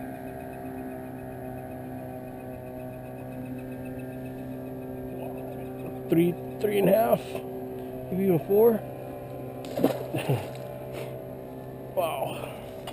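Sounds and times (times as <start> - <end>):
steady mechanical hum: 0.0 - 12.9.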